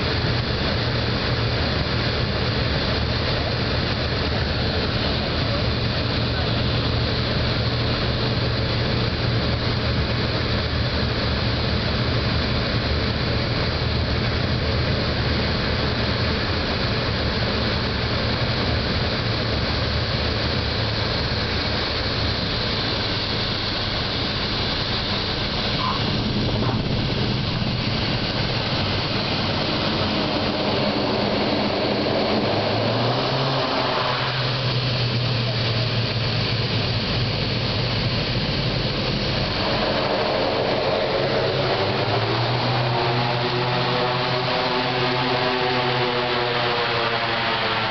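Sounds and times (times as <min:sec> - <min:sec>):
propeller plane engine drone: 0:00.0 - 0:47.9.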